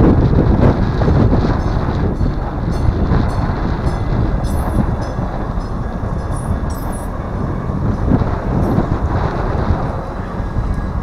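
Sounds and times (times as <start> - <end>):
train wheels rumbling on rails: 0.0 - 11.0
wind buffeting microphone: 0.0 - 11.0.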